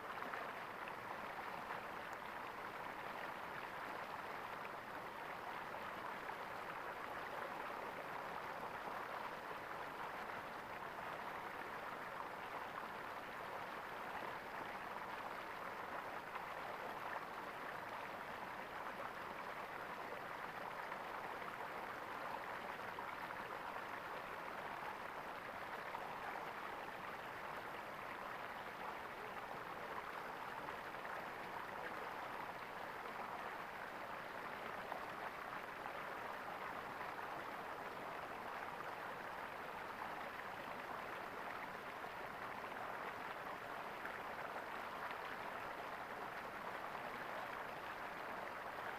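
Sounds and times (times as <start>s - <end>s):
stream water gurgling: 0.0s - 48.9s.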